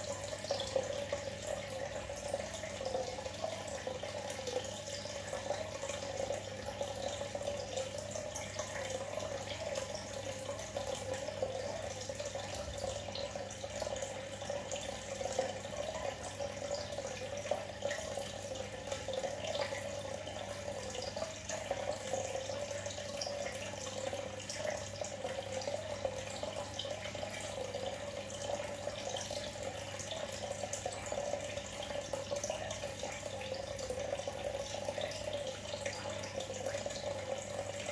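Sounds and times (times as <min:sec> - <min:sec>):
aquarium water bubbling: 0:00.0 - 0:37.9
small water drips: 0:00.0 - 0:37.9.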